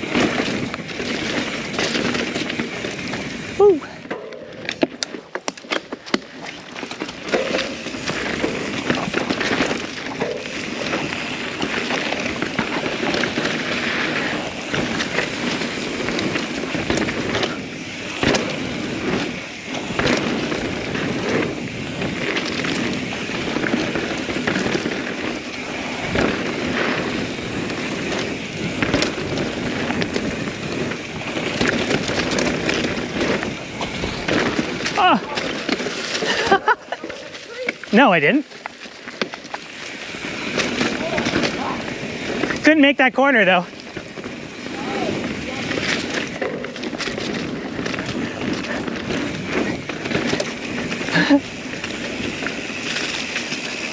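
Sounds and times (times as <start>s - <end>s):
bike rattling over rocks: 0.0s - 53.9s
bike tyres on dirt trail: 0.0s - 53.9s.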